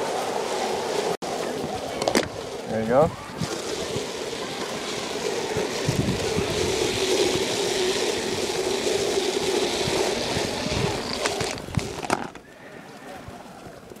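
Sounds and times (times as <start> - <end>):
fire hose scraping over asphalt: 0.0 - 12.6.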